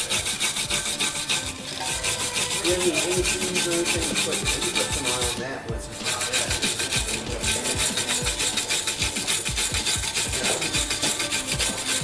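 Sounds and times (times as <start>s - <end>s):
wire brush scrubbing metal: 0.0s - 12.0s.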